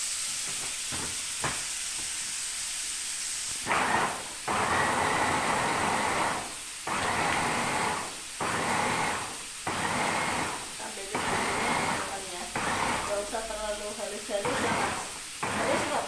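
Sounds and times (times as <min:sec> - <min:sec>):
chicken sizzling in oil: 0:00.0 - 0:16.0
electric blender grinding: 0:00.0 - 0:16.0.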